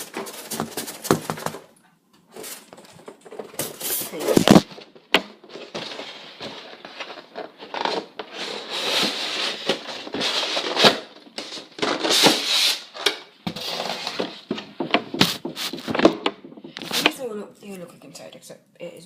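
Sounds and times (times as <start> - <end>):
packaging rustling and crinkling: 0.0 - 17.2.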